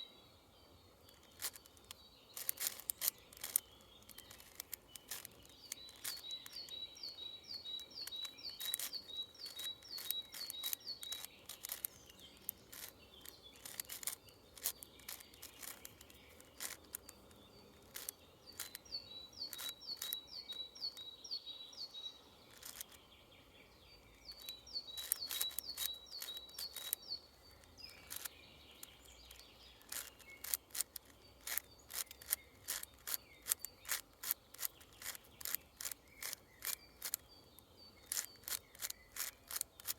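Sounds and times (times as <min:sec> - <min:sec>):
songbird singing: 0:00.0 - 0:39.9
puzzle cube layers clicking: 0:01.1 - 0:21.0, 0:22.5 - 0:23.0, 0:24.3 - 0:37.3, 0:38.0 - 0:39.9.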